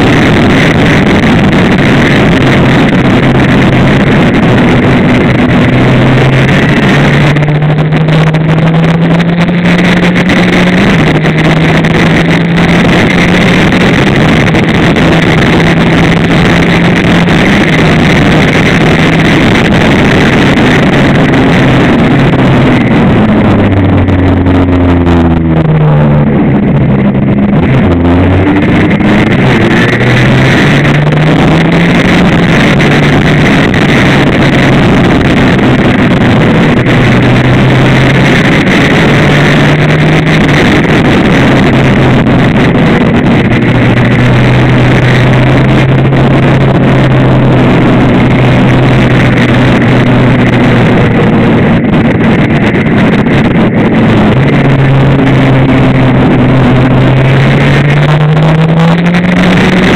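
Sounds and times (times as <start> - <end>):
two-stroke racing engine: 0.0 - 59.9
wind noise on microphone: 0.0 - 59.9.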